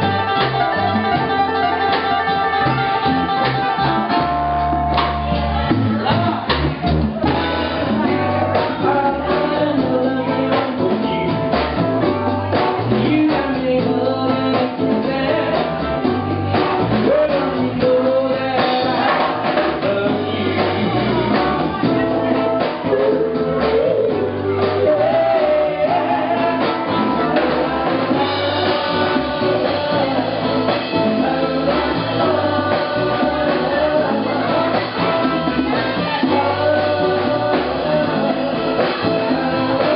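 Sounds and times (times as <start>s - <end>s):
bass guitar: 0.0s - 39.9s
drum kit beat: 0.0s - 39.9s
male vocals: 7.2s - 39.9s.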